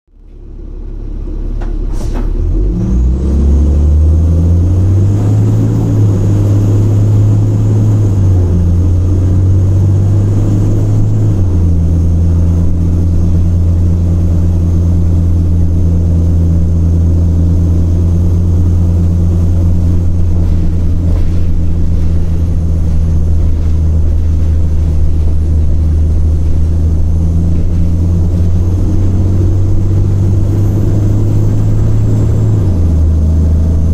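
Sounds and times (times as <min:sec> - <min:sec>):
diesel bus engine idling: 0:00.2 - 0:33.9.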